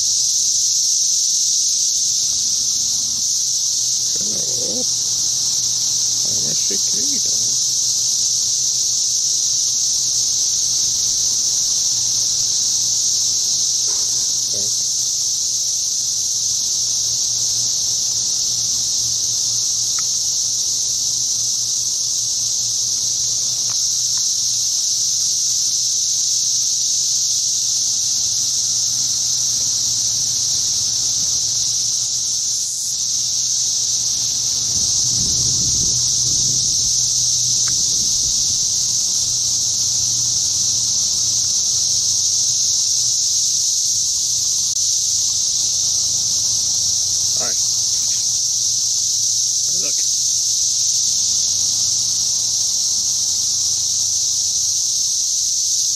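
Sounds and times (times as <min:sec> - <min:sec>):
cicadas droning: 0:00.0 - 0:55.9.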